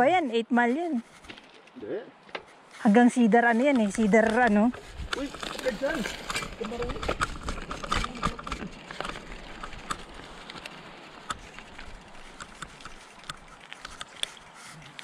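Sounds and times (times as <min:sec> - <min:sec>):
bicycle rattling on dirt trail: 0:01.0 - 0:15.0.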